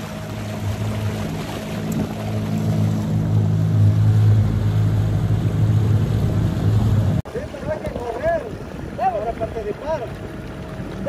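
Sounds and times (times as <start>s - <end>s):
outboard motor humming: 0.0s - 11.0s
water and wind hissing: 0.0s - 11.0s.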